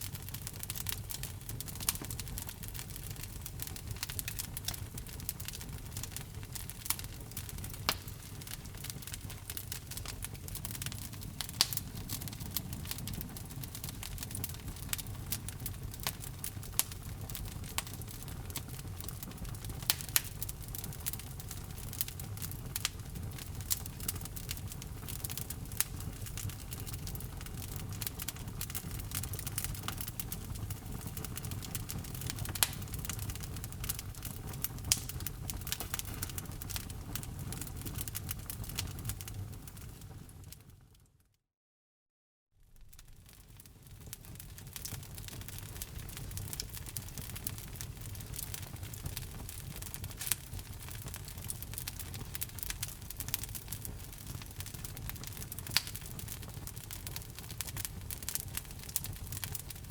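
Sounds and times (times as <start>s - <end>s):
wood fire crackling in fireplace: 0.0s - 41.1s, 42.6s - 59.9s.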